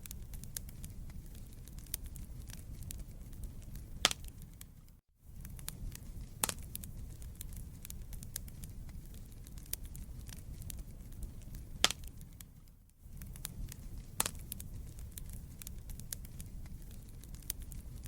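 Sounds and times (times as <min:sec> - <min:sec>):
loud fire pops: 0:00.0 - 0:18.0
wood fire crackling: 0:00.0 - 0:18.0.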